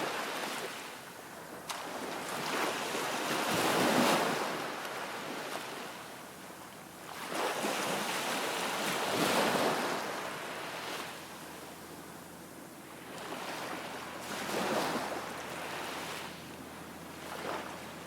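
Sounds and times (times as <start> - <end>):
waves washing in shallow water: 0.0 - 6.2, 7.0 - 11.6, 13.0 - 16.5, 17.1 - 18.0.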